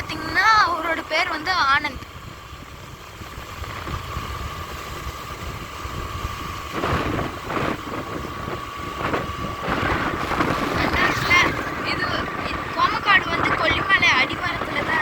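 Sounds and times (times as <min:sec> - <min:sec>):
engine and road rumble: 0:00.0 - 0:15.0
thin steady whine: 0:00.0 - 0:15.0
rushes of passing air: 0:02.1 - 0:15.0.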